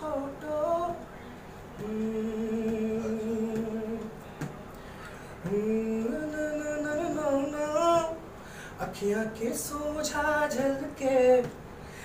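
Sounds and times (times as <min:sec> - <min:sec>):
man singing unaccompanied: 0:00.0 - 0:01.1, 0:01.8 - 0:04.2, 0:05.4 - 0:11.6.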